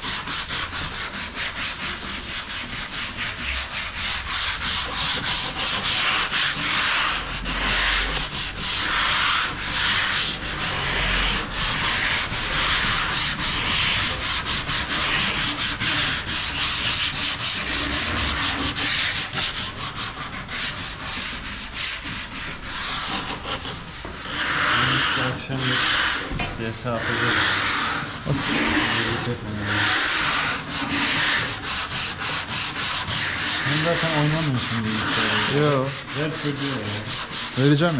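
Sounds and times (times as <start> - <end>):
sandpaper scrubbing wood: 0.0 - 37.9.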